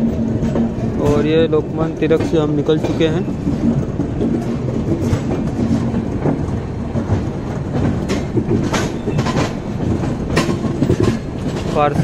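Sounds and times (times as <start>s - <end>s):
train rumbling on track: 0.0s - 12.0s
wheels clacking over rail joints: 0.0s - 12.0s.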